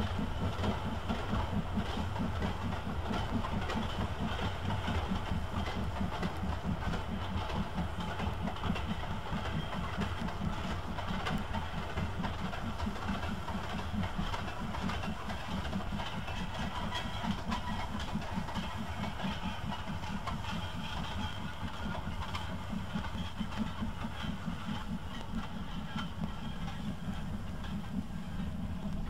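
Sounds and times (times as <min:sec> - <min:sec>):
steam train chugging: 0:00.0 - 0:29.0.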